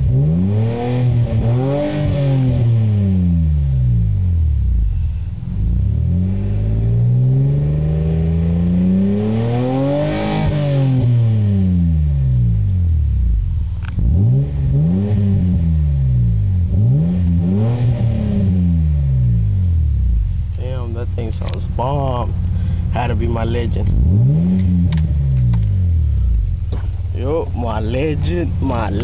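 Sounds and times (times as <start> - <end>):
car exhaust revving: 0.0 - 29.0.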